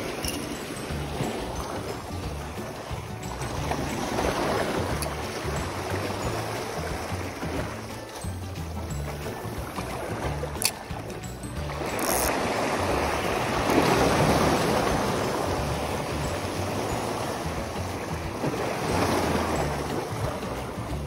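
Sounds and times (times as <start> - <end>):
waves breaking over rocks: 0.0 - 21.0.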